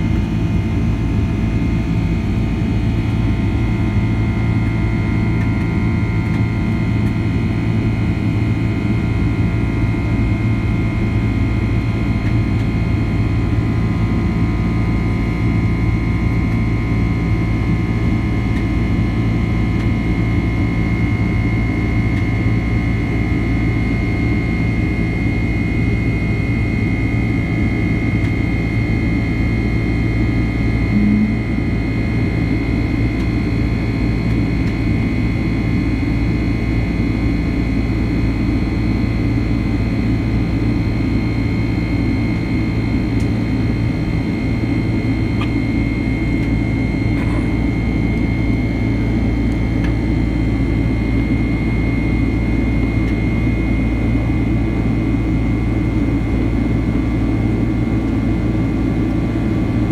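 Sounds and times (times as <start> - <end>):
engine and airflow rumble: 0.0 - 59.9
high engine whine: 0.0 - 59.9.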